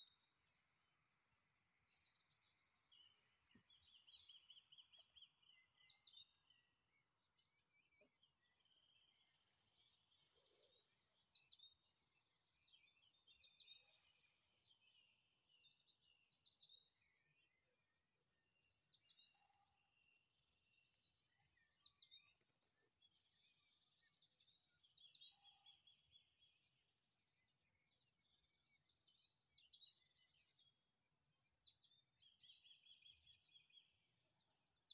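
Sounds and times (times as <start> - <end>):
small birds chirping and trilling: 0.0 - 34.9.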